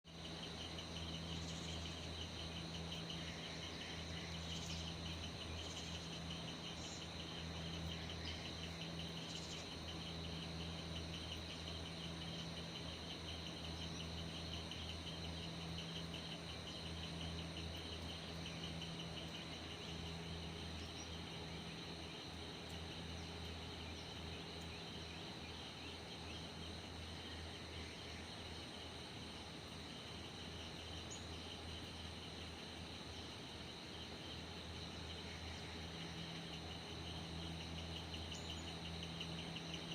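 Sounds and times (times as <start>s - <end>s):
insects chirring: 0.1s - 39.9s
low steady hum: 0.1s - 39.9s.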